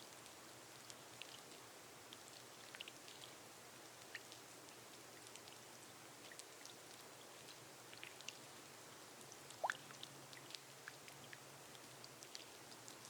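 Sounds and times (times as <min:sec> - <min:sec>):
rain on glass roof: 0:00.0 - 0:13.0.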